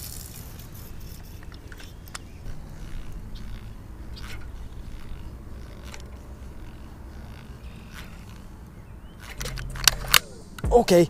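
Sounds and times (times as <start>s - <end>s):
fishing reel cranking: 0.0s - 10.6s
light reel clicks: 0.0s - 10.7s.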